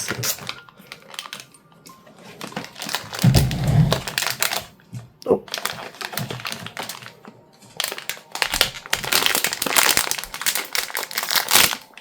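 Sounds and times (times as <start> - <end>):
plastic wrapping crackling: 0.0 - 4.8, 5.4 - 12.0.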